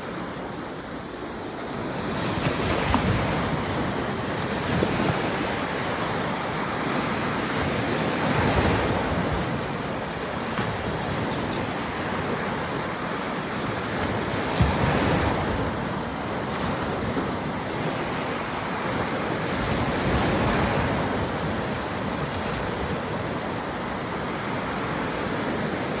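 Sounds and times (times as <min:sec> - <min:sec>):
surf breaking on a beach: 0:00.0 - 0:26.0
wind on microphone: 0:00.0 - 0:26.0.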